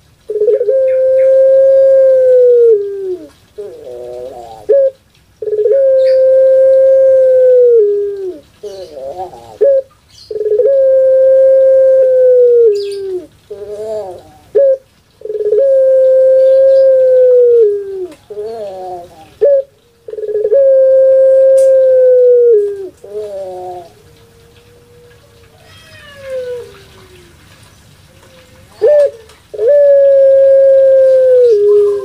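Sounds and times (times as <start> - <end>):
dove cooing: 0.2 - 32.0.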